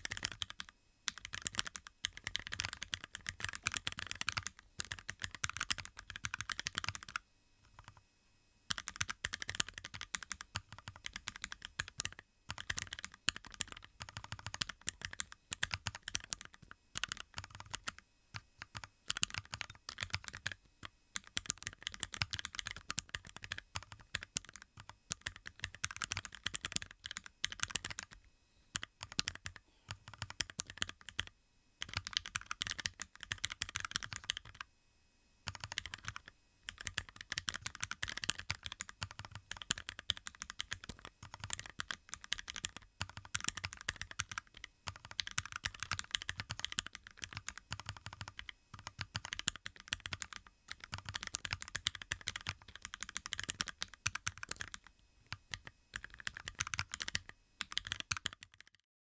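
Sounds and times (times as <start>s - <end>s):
keyboard keystrokes clacking: 0.0s - 8.0s, 8.7s - 18.0s, 18.6s - 20.6s, 21.2s - 28.2s, 28.8s - 34.6s, 35.5s - 58.8s.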